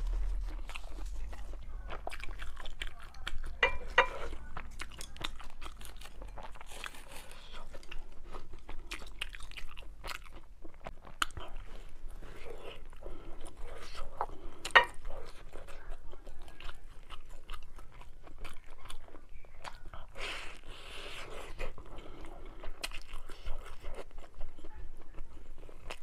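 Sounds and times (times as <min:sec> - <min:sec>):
chewing and biting noodles: 0:00.0 - 0:26.0.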